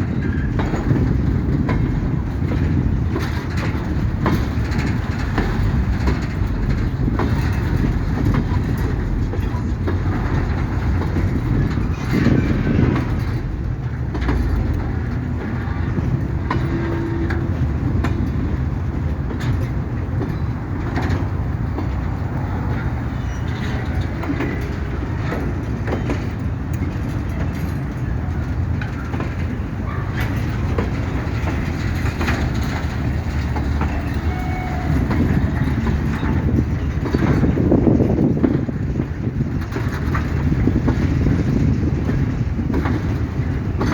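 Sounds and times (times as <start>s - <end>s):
freight train rumble: 0.0s - 43.9s
wheels clanking over rail joints: 0.0s - 43.9s.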